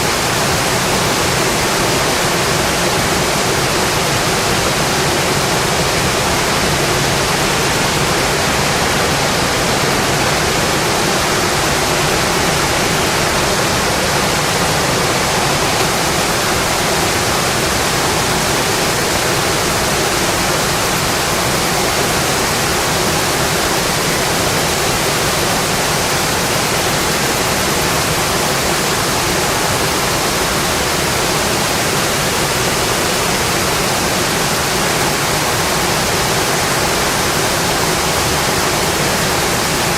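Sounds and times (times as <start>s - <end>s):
rain pattering on a windowpane: 0.0s - 39.9s.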